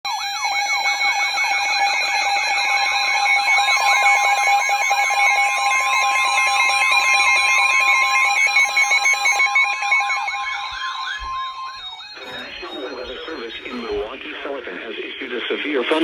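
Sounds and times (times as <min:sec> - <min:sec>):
electronic warble alarm: 0:00.1 - 0:15.3
steady alarm tone: 0:00.1 - 0:15.6.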